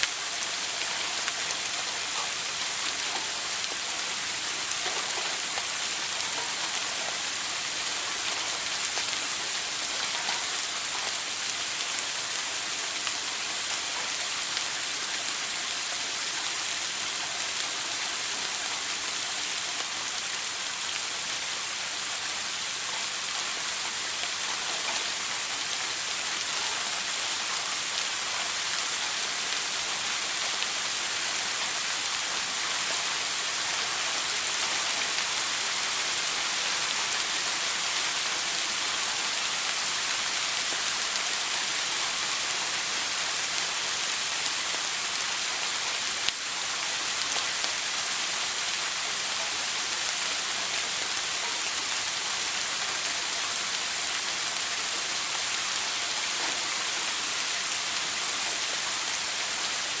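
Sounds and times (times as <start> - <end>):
shower spray hissing: 0.0 - 60.0.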